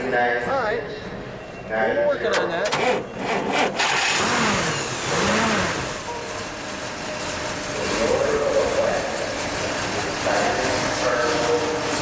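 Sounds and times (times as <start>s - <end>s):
car engine revving and idling: 2.3s - 12.0s.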